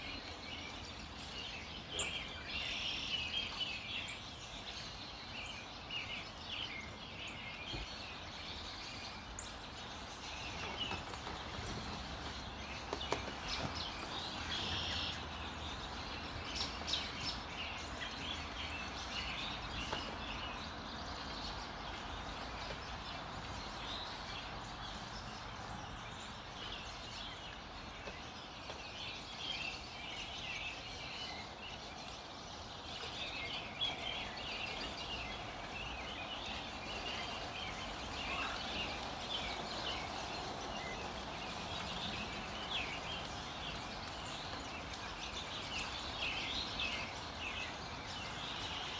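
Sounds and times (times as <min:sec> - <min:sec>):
small birds chirping and singing: 0:00.0 - 0:48.9
steady background hiss: 0:00.0 - 0:48.9.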